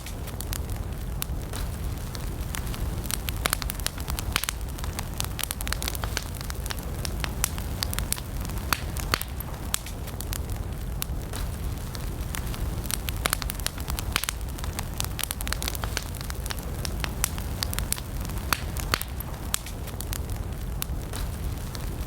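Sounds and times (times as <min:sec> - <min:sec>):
campfire crackling and popping: 0:00.0 - 0:22.0
low rumble of flame: 0:00.0 - 0:22.0.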